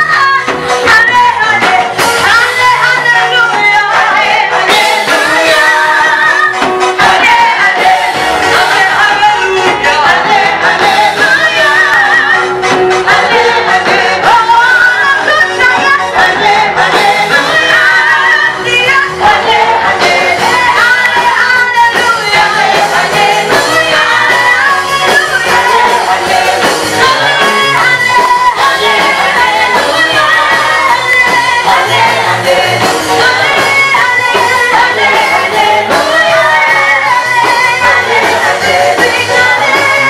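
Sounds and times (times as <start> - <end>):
vocal group singing gospel: 0.0 - 40.0.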